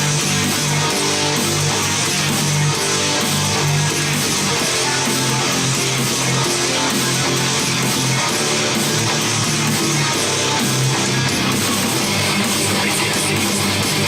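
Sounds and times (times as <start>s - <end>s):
guitar music over loudspeakers: 0.0s - 14.0s.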